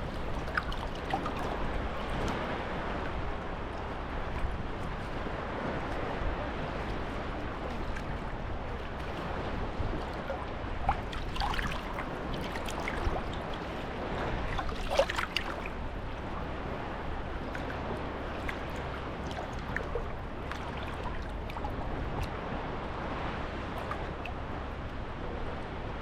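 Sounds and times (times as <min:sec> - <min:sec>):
small waves lapping at shore: 0:00.0 - 0:26.0.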